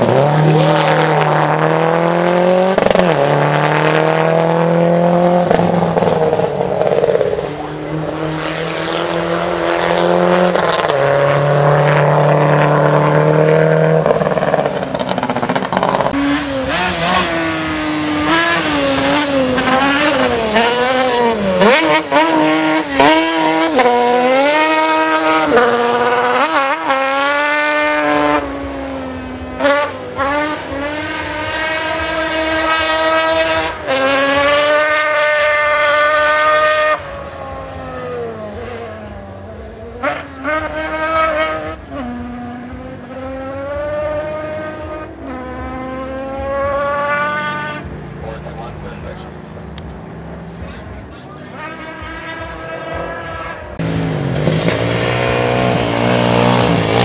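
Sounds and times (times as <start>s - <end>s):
racing engine revving uphill: 0.0s - 57.0s.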